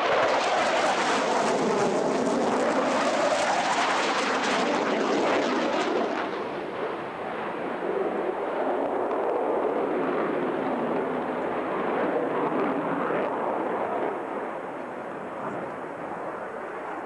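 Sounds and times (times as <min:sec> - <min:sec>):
jet engine roar with crackle: 0:00.0 - 0:17.0.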